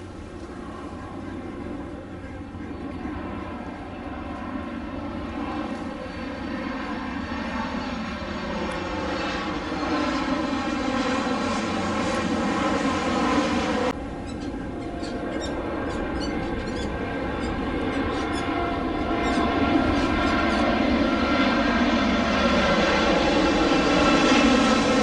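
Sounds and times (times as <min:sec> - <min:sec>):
distant jet roar: 0:00.0 - 0:25.0
high jet whine: 0:00.0 - 0:25.0
jet engines roaring: 0:00.0 - 0:25.0.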